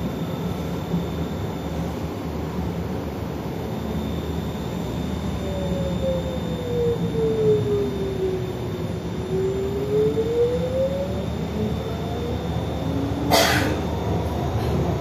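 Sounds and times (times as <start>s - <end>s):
electric traction drive whine: 0.0s - 15.0s.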